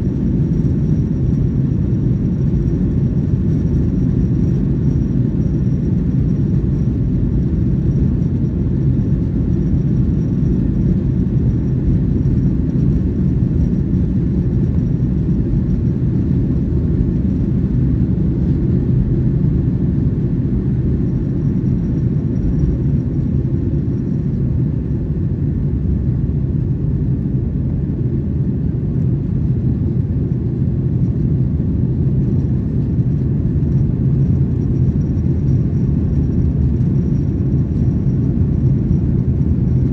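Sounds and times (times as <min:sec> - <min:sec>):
airplane cabin rumble: 0:00.0 - 0:39.9
faint high whine: 0:00.0 - 0:39.9.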